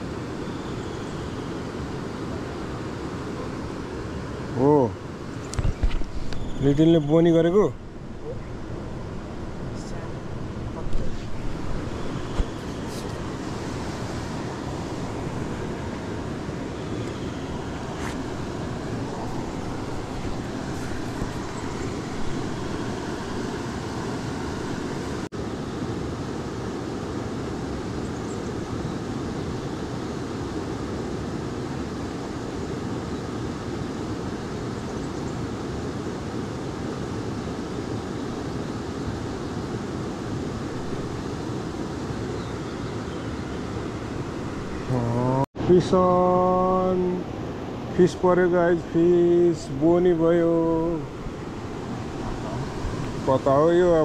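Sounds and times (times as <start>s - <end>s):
river water rushing: 7.2s - 54.0s.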